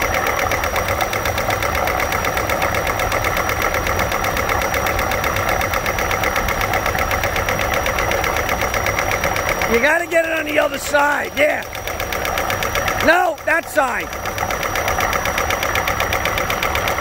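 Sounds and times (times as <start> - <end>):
car engine idling: 0.0 - 17.0
valvetrain clattering ticking: 0.0 - 17.0.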